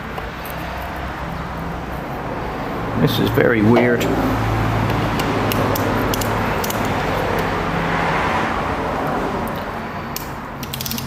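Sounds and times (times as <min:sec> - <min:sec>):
road vehicle passing: 0:00.0 - 0:10.6.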